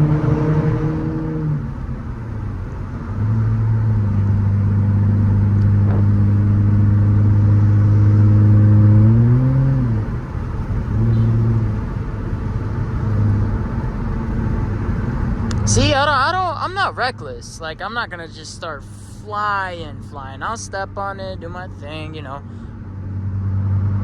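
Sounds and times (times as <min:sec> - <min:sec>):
car exhaust droning: 0:00.0 - 0:24.0.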